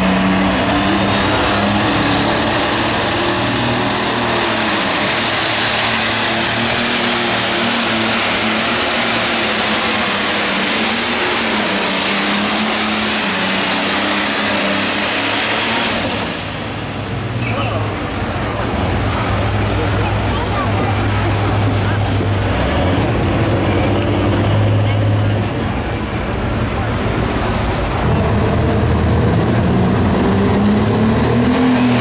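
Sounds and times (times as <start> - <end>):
turbocharger whine: 0.0 - 19.5, 21.2 - 32.0
diesel tractor engine at full throttle: 0.0 - 32.0.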